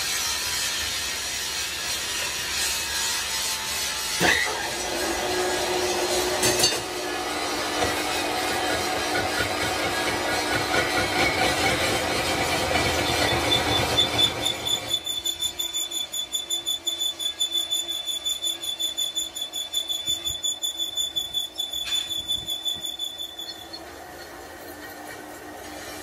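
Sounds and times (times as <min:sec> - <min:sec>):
lathe tool squealing on steel: 0:00.1 - 0:26.0.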